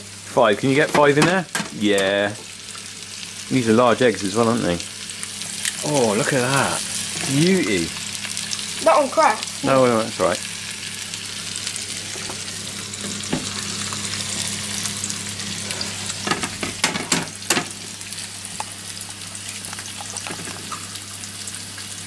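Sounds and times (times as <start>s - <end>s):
eggs sizzling in a pan: 0.0s - 22.0s.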